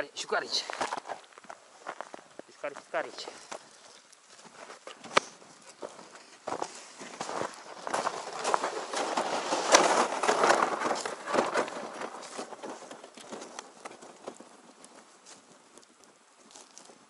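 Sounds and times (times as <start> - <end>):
reel small clicks and rustles: 0.6 - 17.0.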